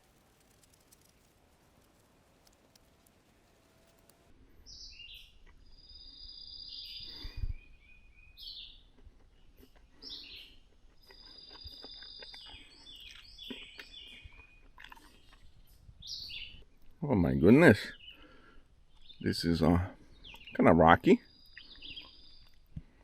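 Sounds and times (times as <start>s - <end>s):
songbirds singing: 1.9s - 23.0s.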